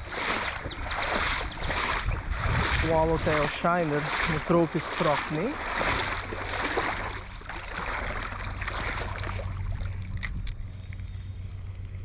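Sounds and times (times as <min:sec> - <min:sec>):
flowing river water: 0:00.0 - 0:11.2
wind rumble on microphone: 0:00.0 - 0:12.0.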